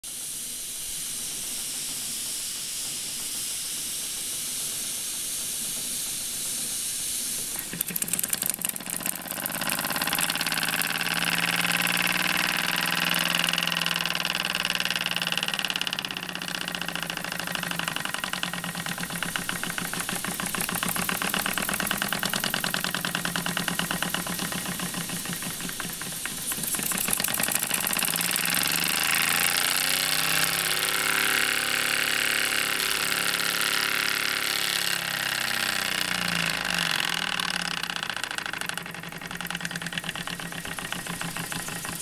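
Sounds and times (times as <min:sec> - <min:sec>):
steam engine chuffing: 0:00.1 - 0:42.0
steam hissing: 0:00.1 - 0:42.0.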